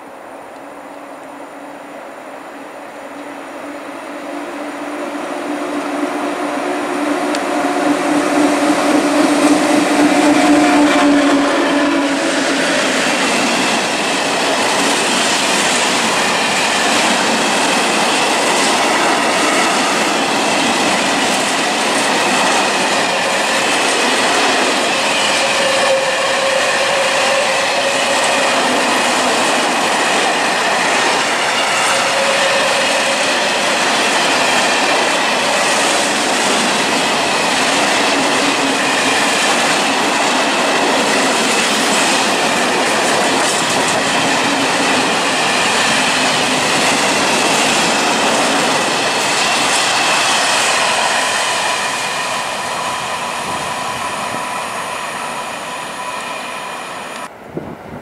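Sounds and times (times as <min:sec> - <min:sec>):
electric locomotives humming: 0:00.0 - 0:58.0
train wheels clattering on rail joints: 0:07.3 - 0:54.8.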